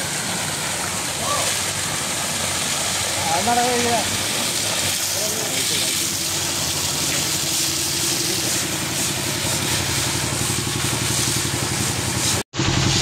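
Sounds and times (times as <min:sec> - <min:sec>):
engine idling: 0:00.0 - 0:13.0
water jet hissing: 0:00.0 - 0:13.0.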